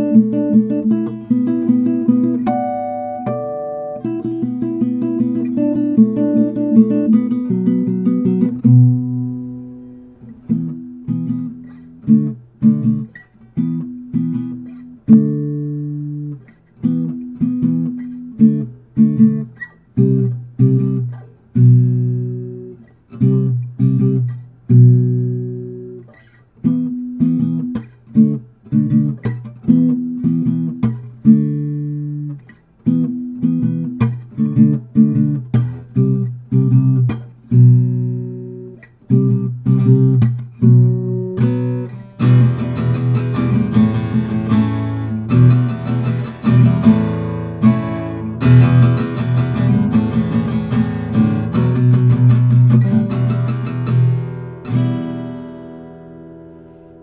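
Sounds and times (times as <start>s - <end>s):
acoustic guitar plucked: 0.0s - 57.0s.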